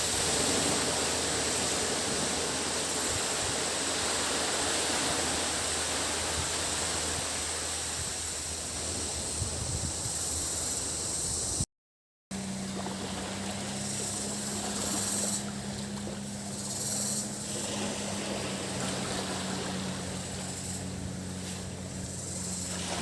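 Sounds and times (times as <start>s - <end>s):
cicadas buzzing: 0.0s - 11.6s, 12.3s - 23.0s
low engine hum: 0.0s - 11.6s, 12.3s - 23.0s
waves washing on a beach: 0.0s - 11.6s, 12.4s - 23.0s.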